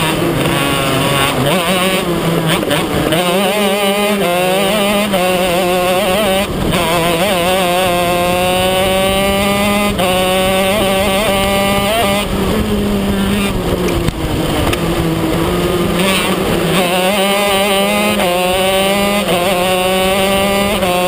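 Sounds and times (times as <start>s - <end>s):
kart engine accelerating: 0.0s - 21.0s.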